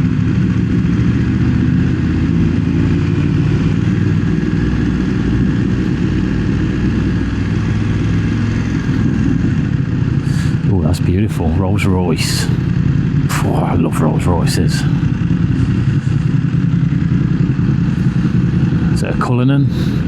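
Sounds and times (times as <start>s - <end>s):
low wind rumble: 0.0s - 20.0s
motorcycle engine running: 0.0s - 20.0s.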